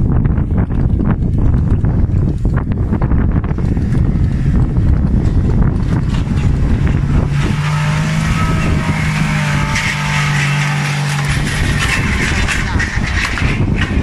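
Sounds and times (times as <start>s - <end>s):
small engine running under load: 0.0s - 14.0s
wind buffeting microphone: 0.0s - 14.0s.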